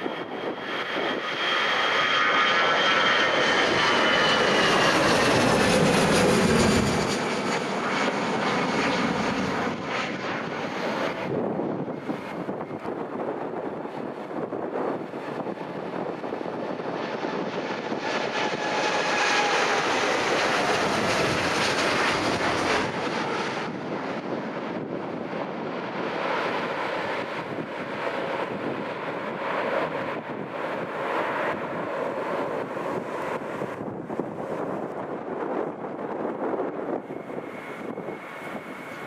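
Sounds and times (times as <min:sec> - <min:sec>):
airliner engine whine: 0:00.0 - 0:39.0
wind on microphone: 0:00.0 - 0:39.0.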